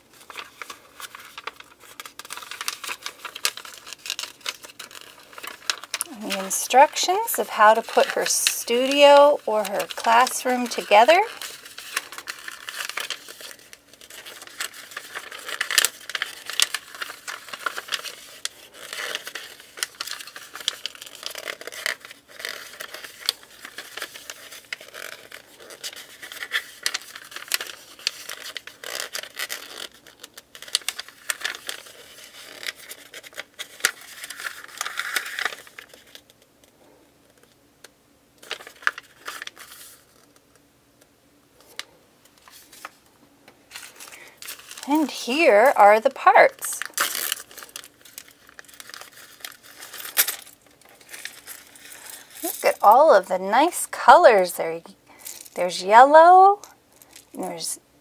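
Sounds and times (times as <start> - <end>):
paper pages rustling: 0.0 - 37.6, 38.4 - 40.6, 41.6 - 43.1, 43.7 - 54.6.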